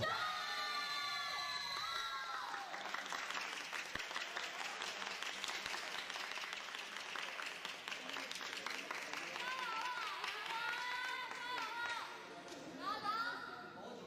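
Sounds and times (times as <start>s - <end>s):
spectators clapping: 0.8s - 12.6s.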